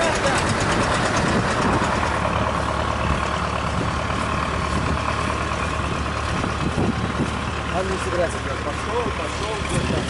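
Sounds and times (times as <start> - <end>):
heavy vehicle engine idling: 0.0 - 10.0.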